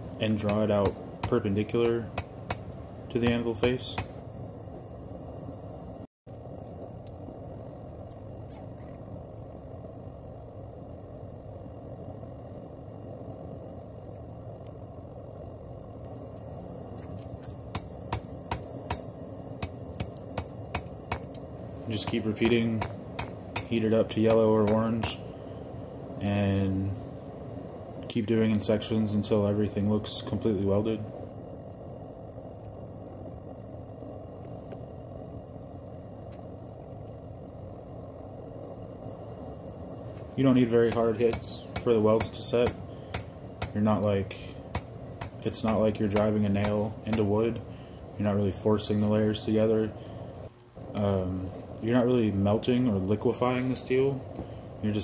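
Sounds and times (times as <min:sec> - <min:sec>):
steady low rumbling: 0:00.0 - 0:55.0.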